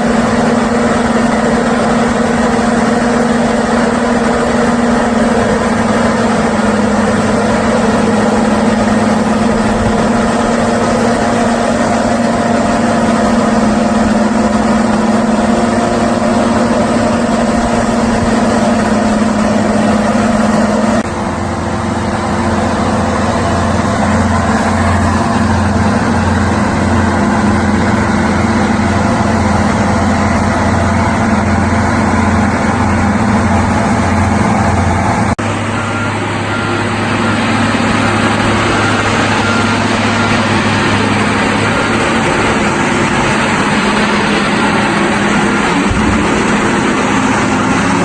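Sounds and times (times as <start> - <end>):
large engine running: 0.0 - 48.0.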